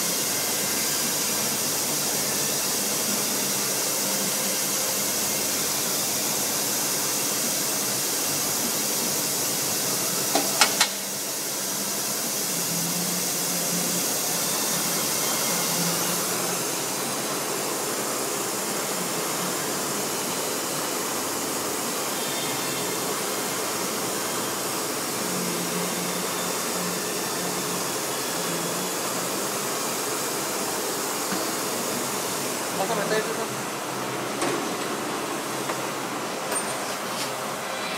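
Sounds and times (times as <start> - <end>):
machine whirring and hissing: 0.0 - 37.9.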